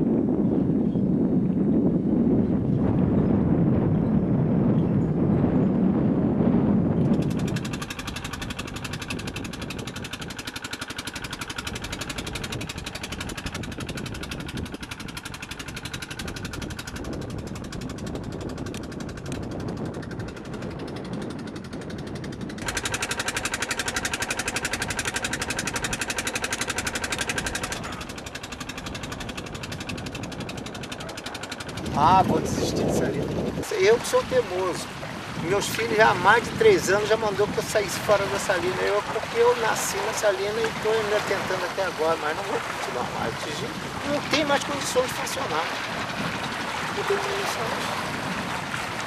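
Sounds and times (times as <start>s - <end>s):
motor running with fast beat: 7.0s - 33.6s, 34.3s - 49.0s.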